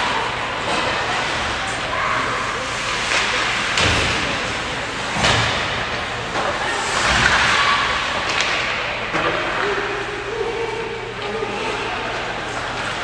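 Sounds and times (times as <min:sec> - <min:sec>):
hockey game crowd din: 0:00.0 - 0:13.0.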